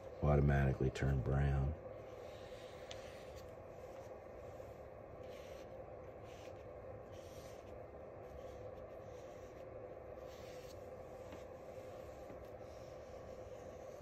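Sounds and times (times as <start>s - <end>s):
faint hum: 0.0s - 14.0s
paintbrush brushing strokes: 0.0s - 14.0s.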